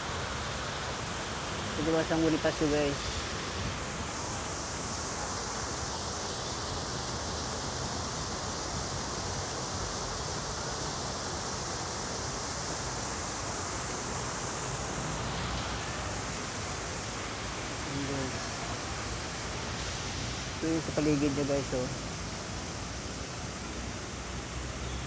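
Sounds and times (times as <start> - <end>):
fountain water splashing: 0.0 - 25.0.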